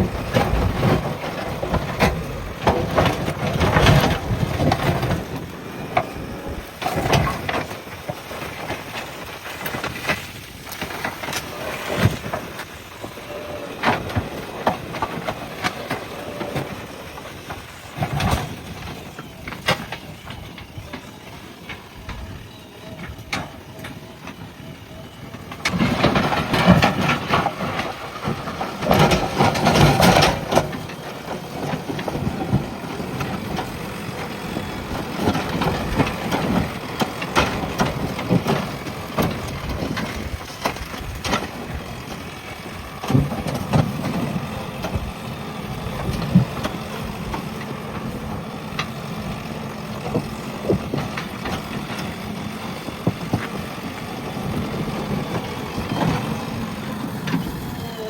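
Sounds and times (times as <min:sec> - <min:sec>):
backhoe diesel engine under load: 0:00.0 - 0:58.0.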